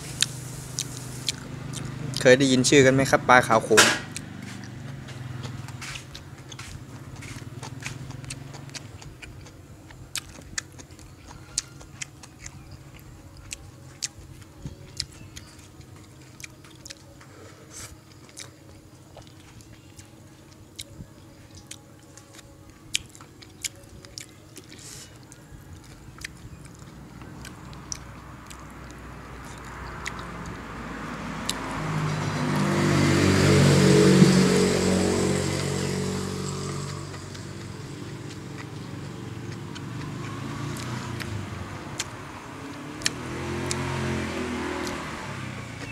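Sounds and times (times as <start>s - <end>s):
motor vehicle approaching: 0.0s - 45.9s
chewing and lip smacking: 0.2s - 2.5s, 4.1s - 34.2s, 35.0s - 42.2s, 43.0s - 45.1s.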